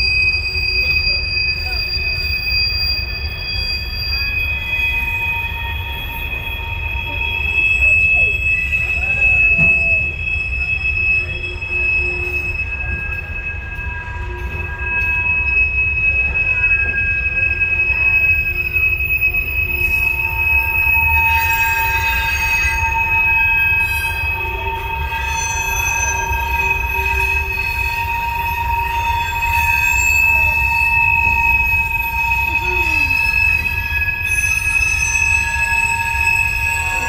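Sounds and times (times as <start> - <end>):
low rumble of train: 0.0 - 37.0
train wheels squealing: 0.0 - 37.0.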